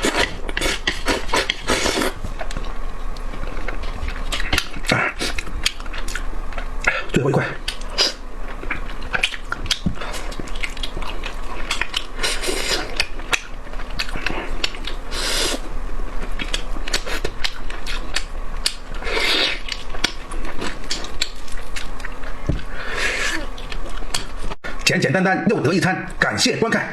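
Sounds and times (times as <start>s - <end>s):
chewing smacks: 0.0s - 24.6s
slurps or breaths: 0.0s - 24.8s.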